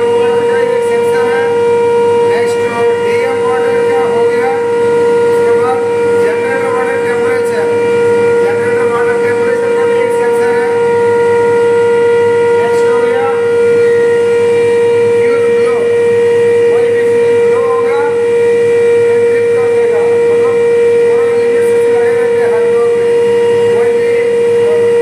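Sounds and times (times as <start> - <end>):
high-pitched electrical whine: 0.0 - 25.0.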